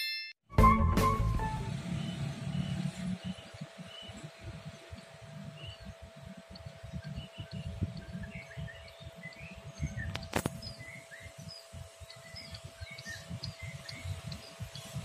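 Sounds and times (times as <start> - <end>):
wind rumbling on microphone: 1.7 - 15.0
small birds chirping: 2.0 - 15.0.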